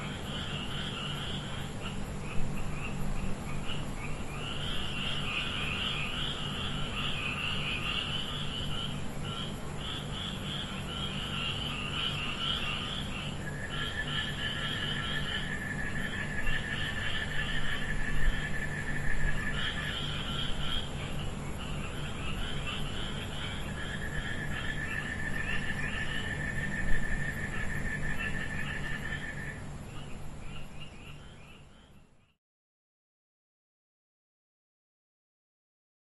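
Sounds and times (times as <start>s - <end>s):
insects trilling: 0.0s - 32.3s.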